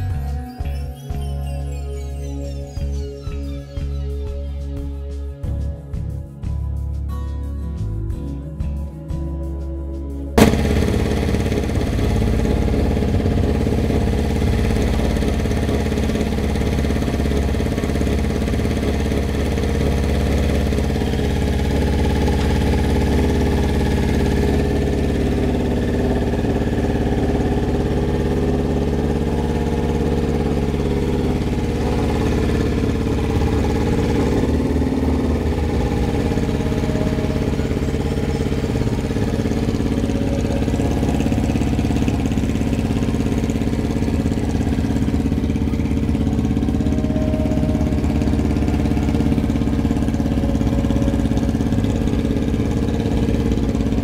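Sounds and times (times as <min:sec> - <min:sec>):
motorcycle engine idling: 0:10.4 - 0:54.0.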